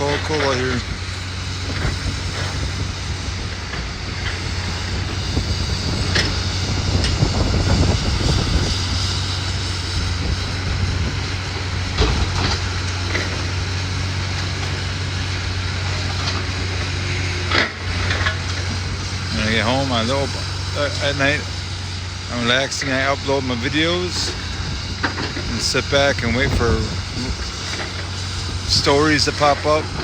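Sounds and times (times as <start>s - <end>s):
diesel machinery humming: 0.0s - 30.0s.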